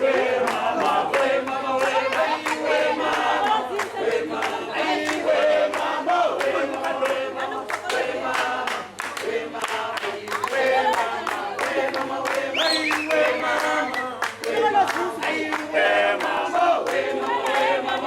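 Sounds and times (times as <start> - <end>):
group singing or chanting: 0.0 - 18.0.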